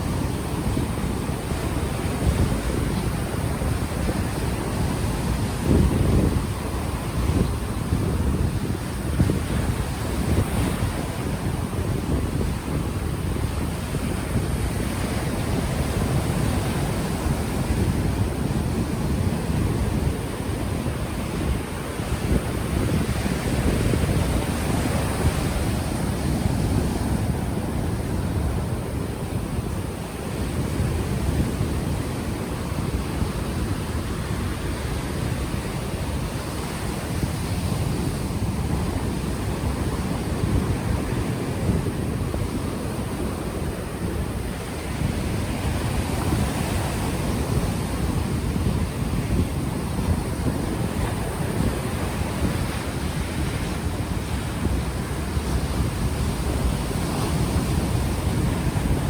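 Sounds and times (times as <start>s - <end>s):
ocean waves washing ashore: 0.0s - 59.0s
wind buffeting microphone: 0.0s - 59.0s.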